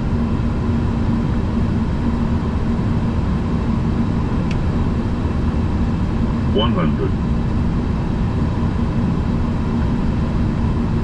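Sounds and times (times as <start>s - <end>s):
aircraft engine noise: 0.0s - 11.0s.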